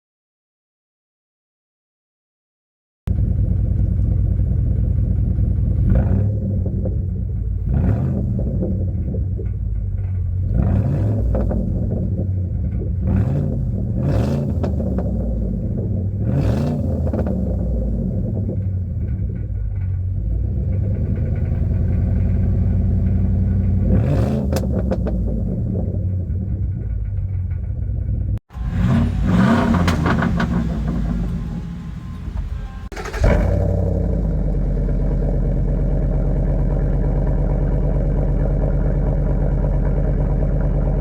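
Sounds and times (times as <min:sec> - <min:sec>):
exhaust crackles and pops: 0:03.1 - 0:41.0
truck exhaust idling and revving: 0:03.1 - 0:41.0.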